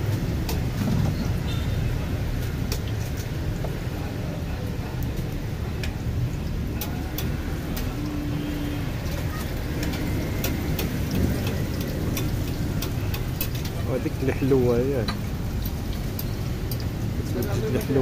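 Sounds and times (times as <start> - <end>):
food frying in oil: 0.0 - 18.0.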